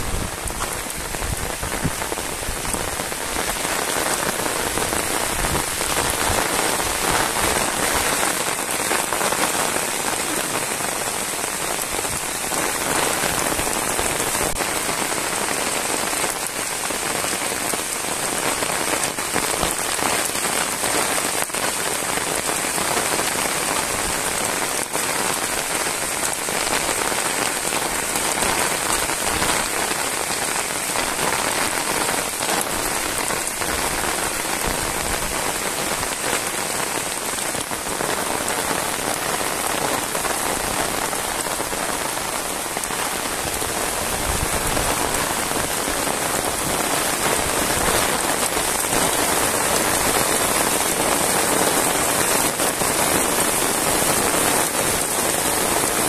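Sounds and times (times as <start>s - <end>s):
heavy rain on a road: 0.0s - 56.0s.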